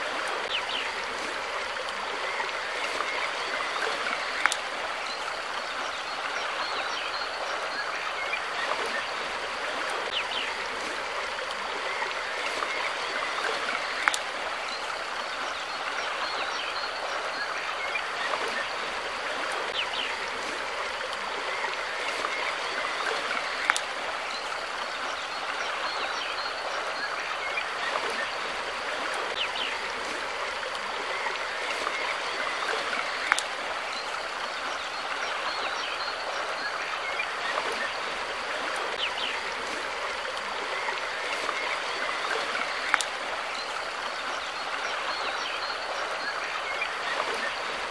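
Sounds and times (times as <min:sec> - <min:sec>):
river stream rushing: 0:00.0 - 0:47.9.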